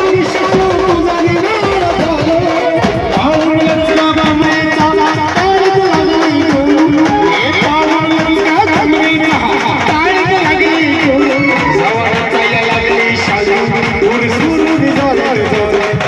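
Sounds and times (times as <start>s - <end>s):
fast steady drumming: 0.0s - 16.0s.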